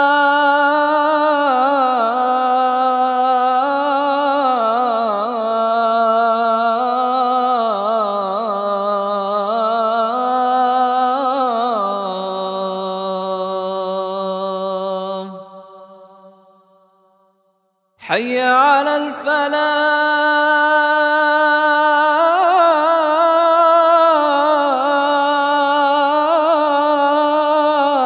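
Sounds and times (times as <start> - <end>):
man chanting call to prayer: 0.0 - 16.3, 18.0 - 28.0.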